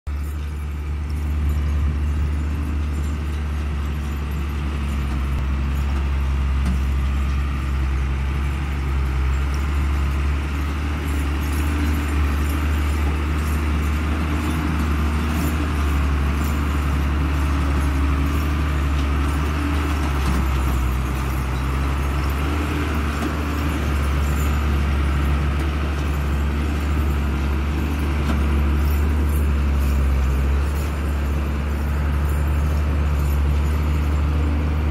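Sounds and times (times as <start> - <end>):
truck diesel engine droning: 0.1 - 34.9.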